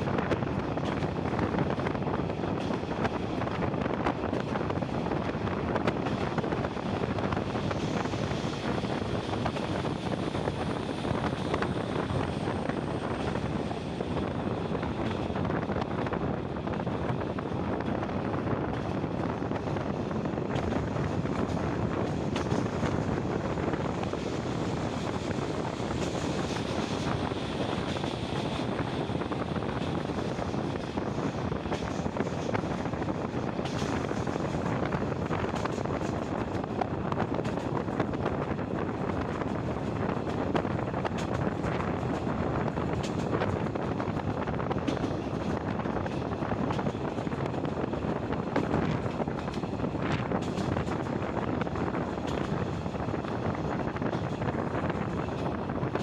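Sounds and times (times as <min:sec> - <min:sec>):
train wheels rumbling on rails: 0:00.0 - 0:56.0
wind rushing over microphone: 0:00.0 - 0:56.0.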